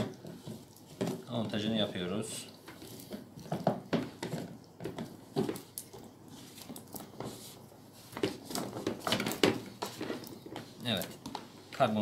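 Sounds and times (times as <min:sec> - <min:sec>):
plastic knocks and rubbing: 0:00.0 - 0:12.0.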